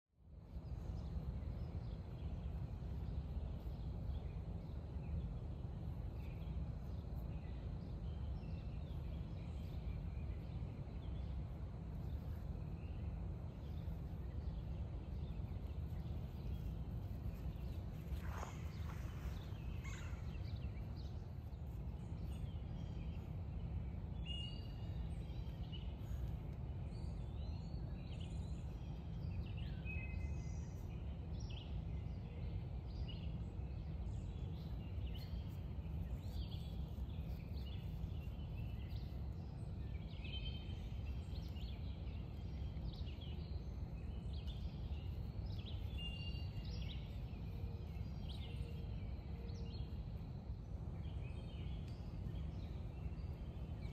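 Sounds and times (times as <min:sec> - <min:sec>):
songbirds chirping: 0:00.1 - 0:53.9
low outdoor rumble: 0:00.2 - 0:53.9.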